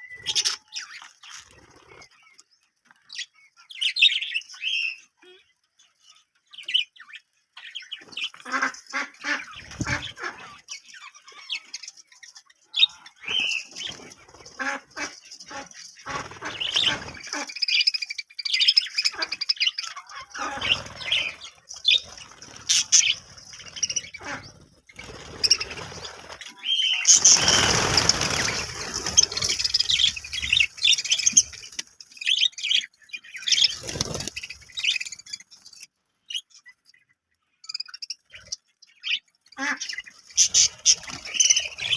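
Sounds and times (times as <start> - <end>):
budgerigars chirping: 6.5 - 41.9.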